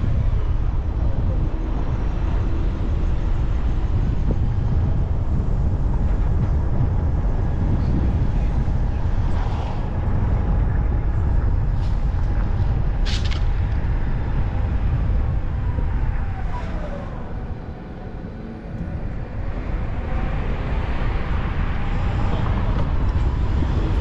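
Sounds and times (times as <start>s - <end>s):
car road and engine rumble: 0.0s - 24.0s.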